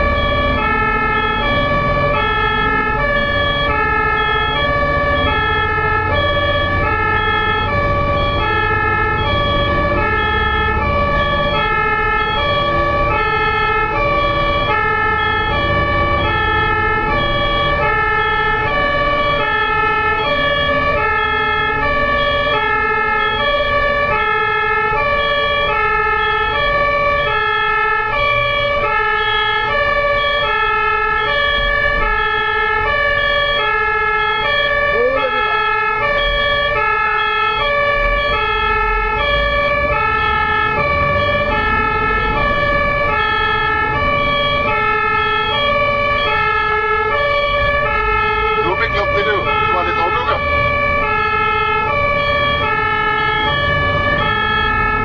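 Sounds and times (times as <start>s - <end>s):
low rumble of road traffic: 0.0s - 55.0s
two-tone ambulance siren: 0.0s - 55.0s.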